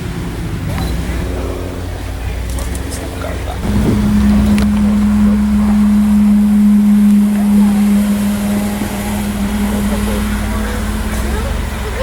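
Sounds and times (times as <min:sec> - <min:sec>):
low background rumble: 0:00.0 - 0:12.0
vehicle low drone: 0:00.0 - 0:12.0.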